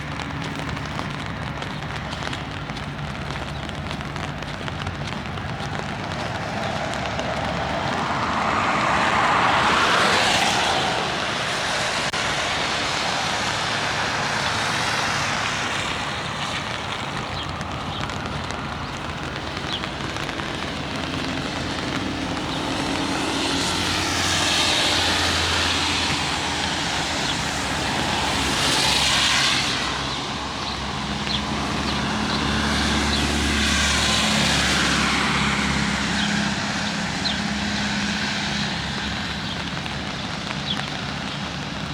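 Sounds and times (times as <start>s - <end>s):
low engine hum: 0.0s - 41.9s
rain spattering: 0.0s - 41.9s
tyres hissing on wet road: 0.0s - 41.9s.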